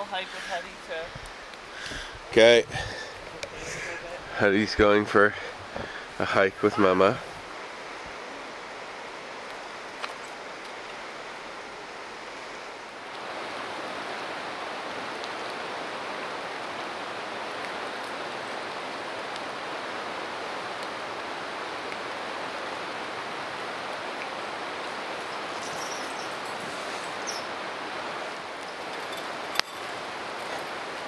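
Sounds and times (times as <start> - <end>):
river water flowing: 0.0 - 31.0.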